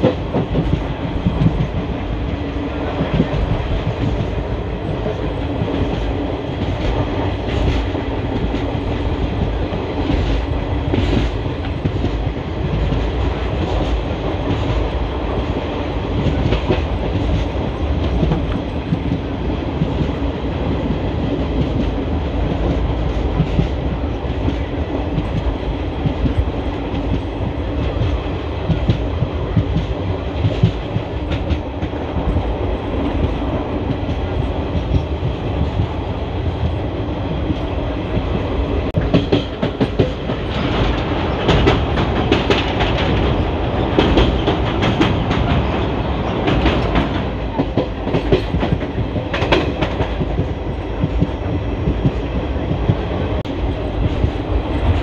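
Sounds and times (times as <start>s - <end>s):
track clicks and knocks: 0.0s - 36.8s, 37.4s - 55.0s
train wheels rumbling on rails: 0.0s - 55.0s.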